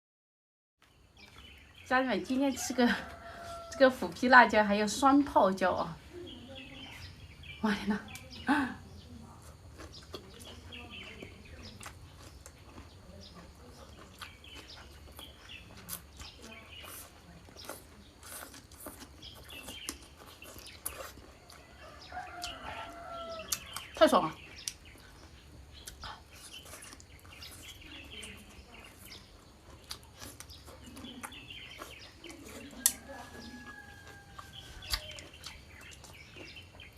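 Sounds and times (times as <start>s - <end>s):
birds chirping: 0.8s - 36.9s
crunching and chewing food: 0.8s - 36.9s.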